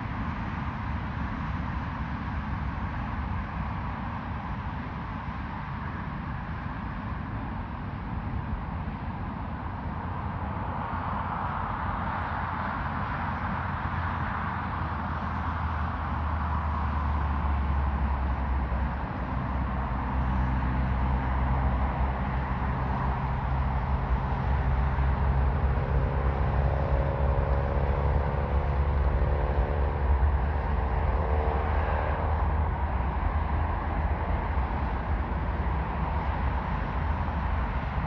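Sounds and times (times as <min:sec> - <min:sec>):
faint engine whine: 0:00.0 - 0:38.0.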